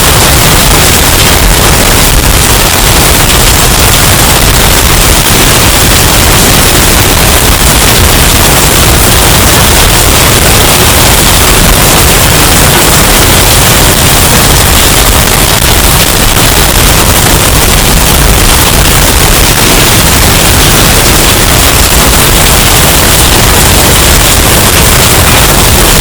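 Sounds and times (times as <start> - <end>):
distorted storm wind noise: 0.0 - 26.0.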